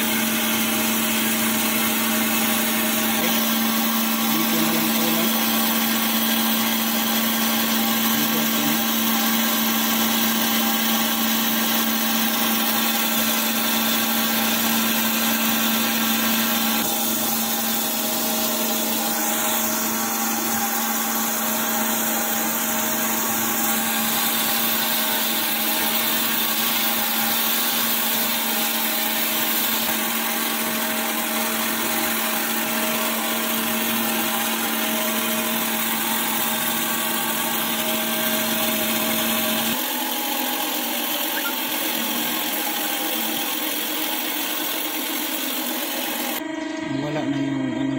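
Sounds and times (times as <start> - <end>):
coolant hissing: 0.0 - 46.4
surface grinder grinding metal: 0.0 - 47.9.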